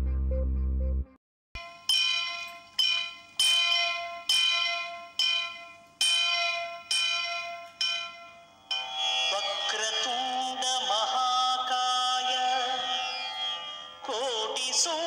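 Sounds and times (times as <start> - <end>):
bell ringing: 1.6 - 15.0.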